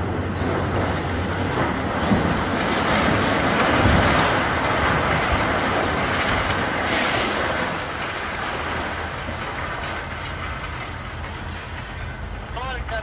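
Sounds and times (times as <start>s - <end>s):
brick masonry crashing down: 0.0s - 13.0s.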